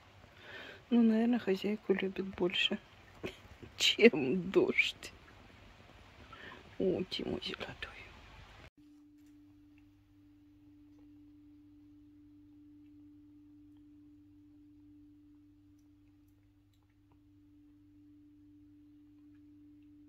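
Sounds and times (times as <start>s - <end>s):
faint steady pure tone: 0.0s - 20.0s
low hum: 2.8s - 20.0s.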